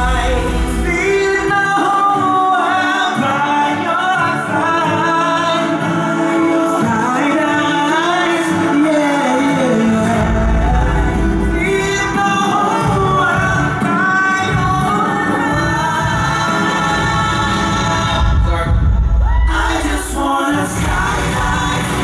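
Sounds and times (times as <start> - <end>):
male vocal group singing in harmony: 0.0 - 22.0.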